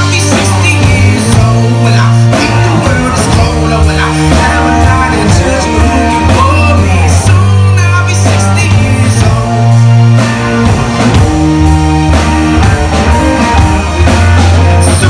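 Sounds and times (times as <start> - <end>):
rock song with singer: 0.0 - 15.0.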